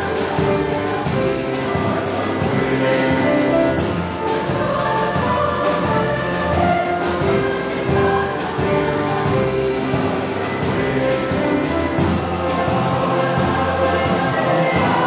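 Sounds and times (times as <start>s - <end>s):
choir singing held chords: 0.0s - 15.0s
low drum beats: 0.0s - 15.0s.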